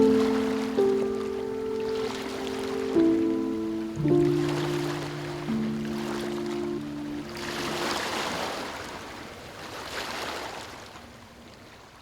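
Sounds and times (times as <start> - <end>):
waves washing onto beach: 0.0 - 12.0.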